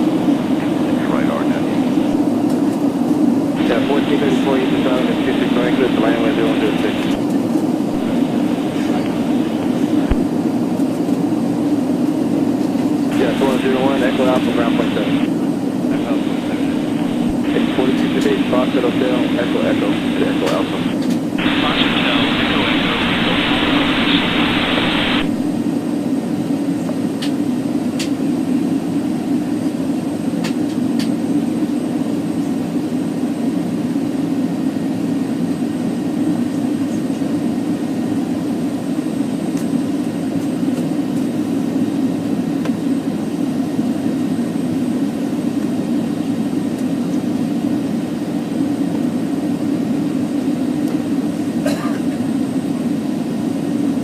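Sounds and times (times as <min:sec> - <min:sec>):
jet engine and airflow rumble: 0:00.0 - 0:54.0.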